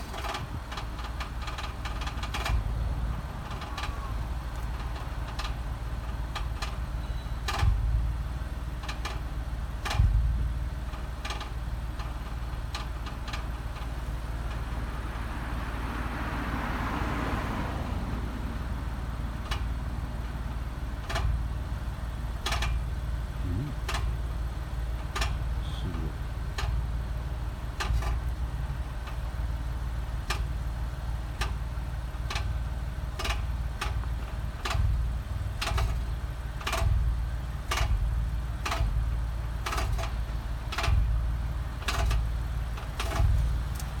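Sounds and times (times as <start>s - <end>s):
car engine idling: 0.0s - 44.0s
exhaust ticking rattle: 0.0s - 44.0s.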